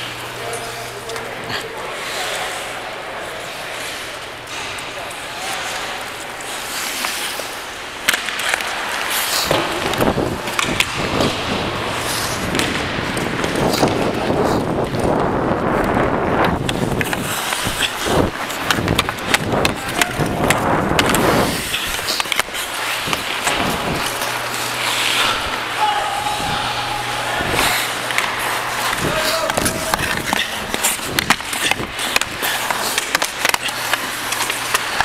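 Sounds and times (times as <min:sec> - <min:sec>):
hockey sticks and puck clicking: 0:00.0 - 0:02.8, 0:03.4 - 0:35.0
ice skates scraping on ice: 0:00.0 - 0:35.0.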